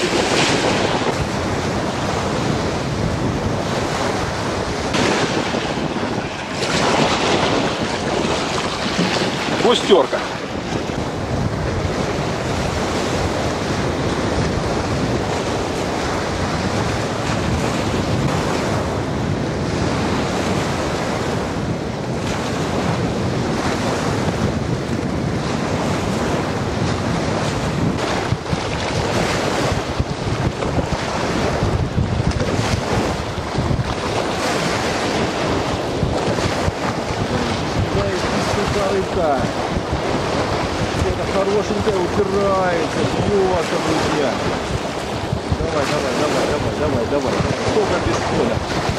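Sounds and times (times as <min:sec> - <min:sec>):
waves washing against bank: 0:00.0 - 0:48.9
wind buffeting microphone: 0:00.0 - 0:48.9.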